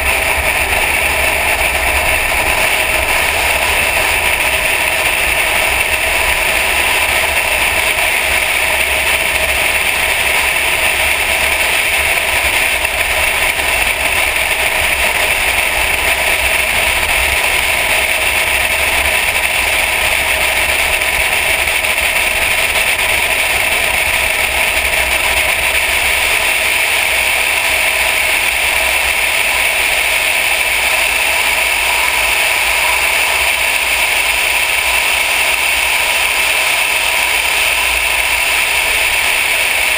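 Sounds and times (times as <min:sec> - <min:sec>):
car engine and road noise drone: 0:00.0 - 0:39.9.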